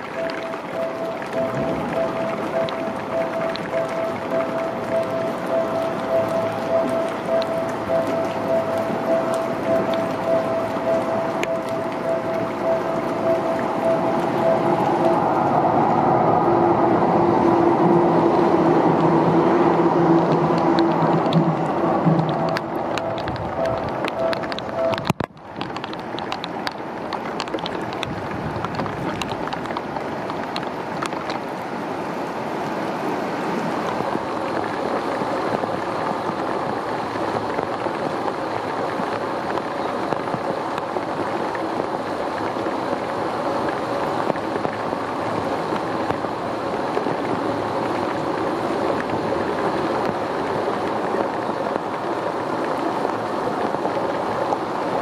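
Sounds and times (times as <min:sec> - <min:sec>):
sharp drip-like ticks: 0:00.0 - 0:15.8, 0:17.9 - 0:31.8, 0:33.8 - 0:55.0
heavy rain pouring: 0:00.0 - 0:55.0.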